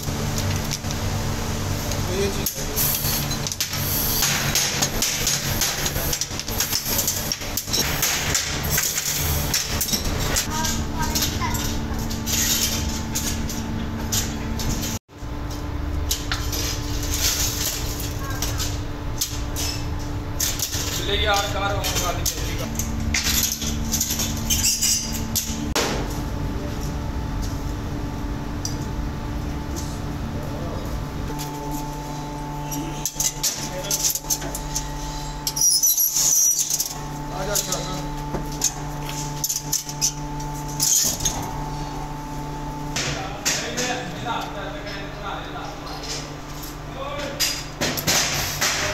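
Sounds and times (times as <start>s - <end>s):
hissing machinery hum: 0.0s - 48.9s.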